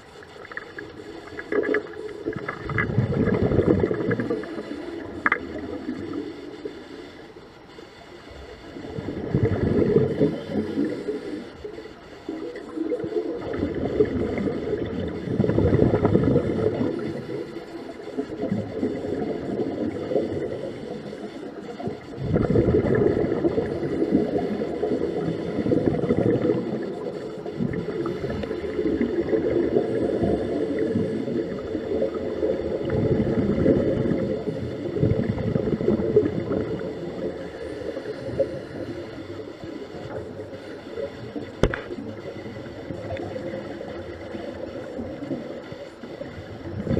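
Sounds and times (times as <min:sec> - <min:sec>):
underwater regulator bubbles gurgling: 0:00.0 - 0:46.9.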